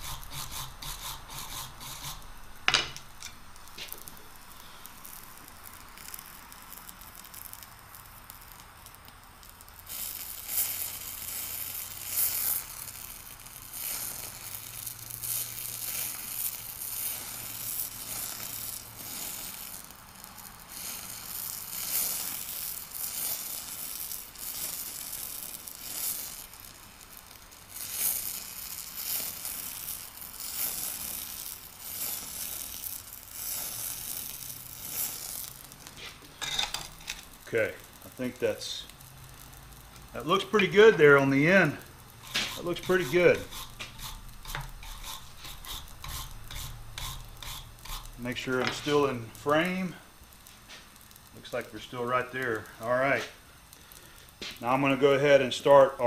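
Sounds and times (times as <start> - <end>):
crackling sizzling surges: 0.0 - 56.0
spray torch hissing: 0.0 - 56.0.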